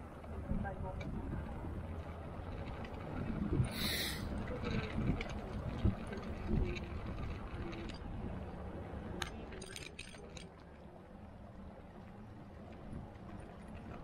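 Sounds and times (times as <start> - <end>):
bike tyres rolling on wet tarmac: 0.0 - 14.0.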